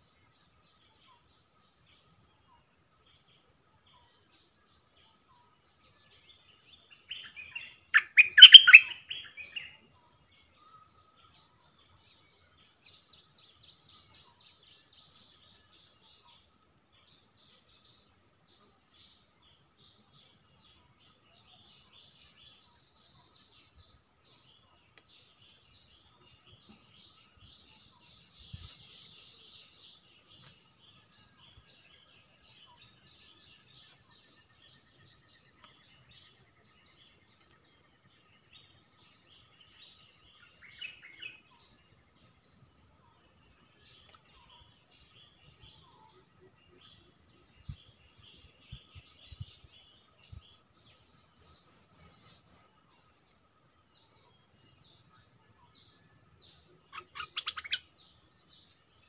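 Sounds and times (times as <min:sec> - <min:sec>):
bird song notes: 0:00.0 - 0:59.0
faint high chirping: 0:00.0 - 0:59.0.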